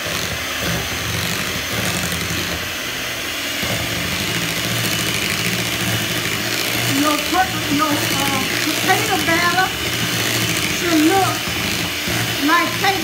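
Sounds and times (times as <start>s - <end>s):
electric hand mixer whining: 0.0s - 13.0s.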